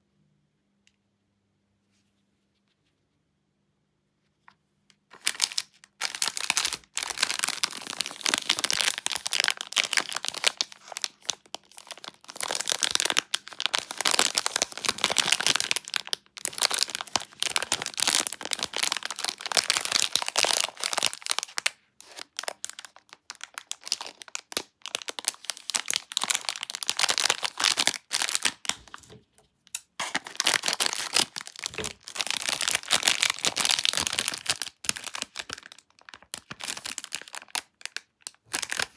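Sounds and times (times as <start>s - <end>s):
plastic wrapper crinkling and tearing: 5.1s - 38.9s.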